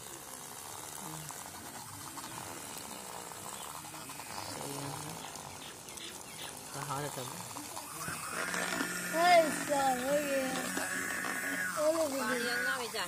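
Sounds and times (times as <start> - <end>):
electric water pump running: 0.0 - 13.0
water jet splashing: 0.0 - 13.0.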